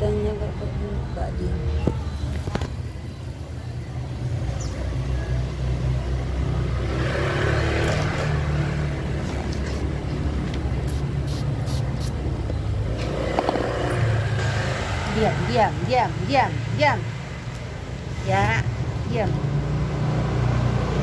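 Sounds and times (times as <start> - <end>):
scooter engines rumbling: 0.0 - 21.0.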